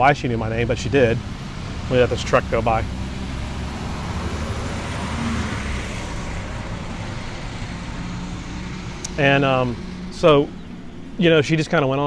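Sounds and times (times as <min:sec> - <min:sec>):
truck driving past: 0:00.0 - 0:12.0.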